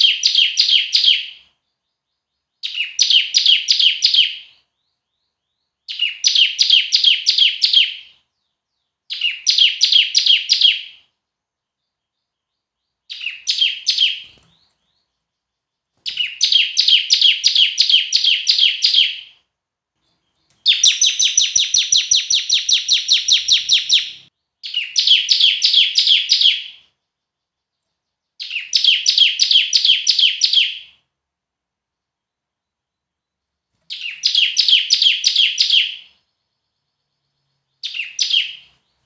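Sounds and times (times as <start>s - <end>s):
bird singing high chirps: 0.0s - 31.2s, 32.0s - 39.0s.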